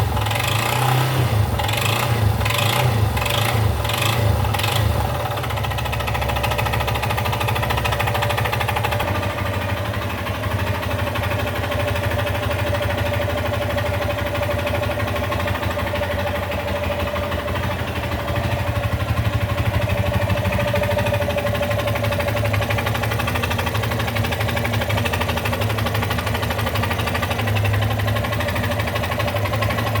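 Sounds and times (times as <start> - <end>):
motorcycle engine running steadily: 0.0 - 30.0.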